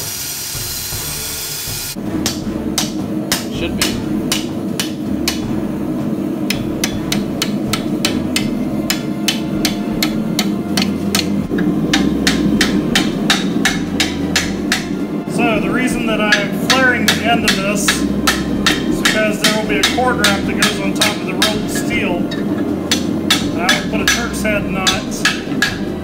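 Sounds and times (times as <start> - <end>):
hammer striking steel on anvil: 2.1 - 26.0.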